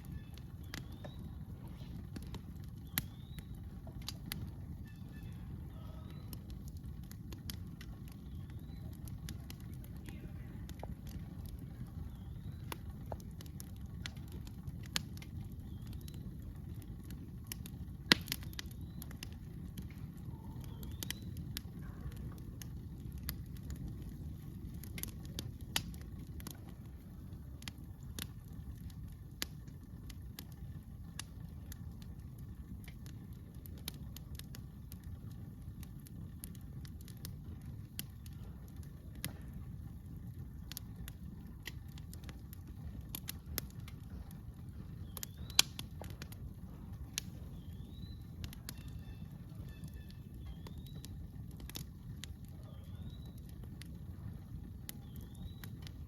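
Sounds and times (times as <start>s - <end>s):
campfire wood crackling and popping: 0.0s - 56.0s
steady low rumble: 0.0s - 56.0s.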